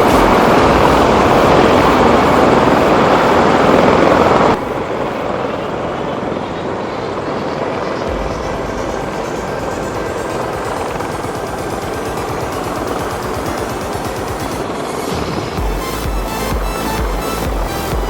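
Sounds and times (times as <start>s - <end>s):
helicopter rotor and turbine noise: 0.0s - 18.0s.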